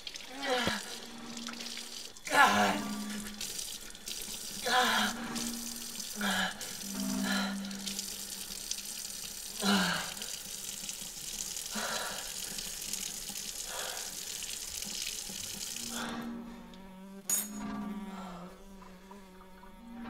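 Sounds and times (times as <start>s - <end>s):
faucet running into sink: 0.0s - 16.2s.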